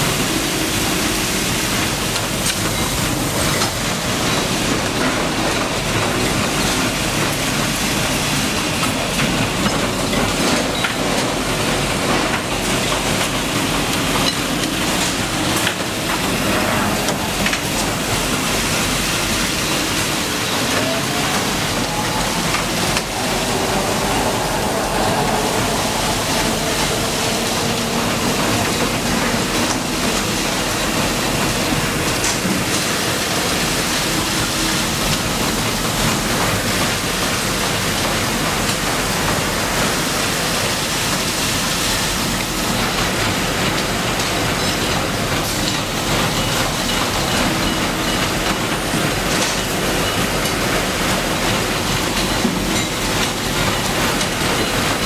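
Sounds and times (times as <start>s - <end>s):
winding machines running: 0.0s - 55.0s.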